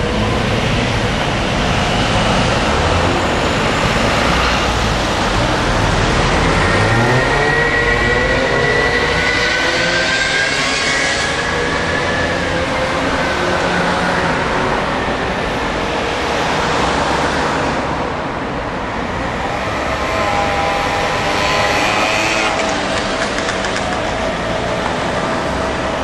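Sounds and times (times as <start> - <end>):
road traffic rushing: 0.0 - 26.0.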